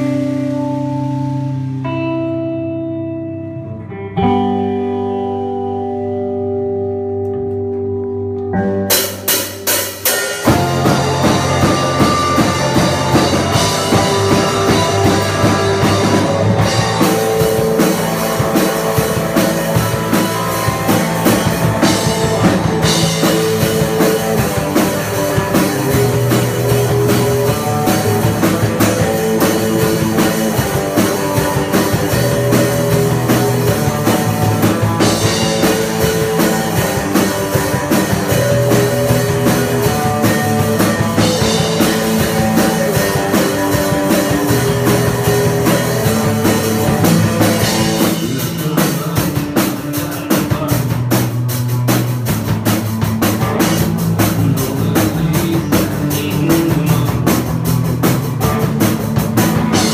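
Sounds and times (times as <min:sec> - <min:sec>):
electric guitar chords: 0:00.0 - 0:59.9
live rock band playing: 0:00.0 - 0:59.9
drum hits: 0:08.9 - 0:59.9.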